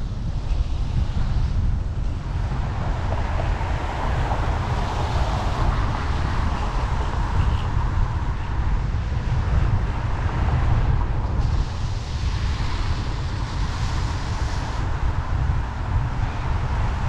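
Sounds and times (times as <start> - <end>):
road and traffic hiss: 0.0 - 17.0
wind buffeting microphone: 0.0 - 17.0.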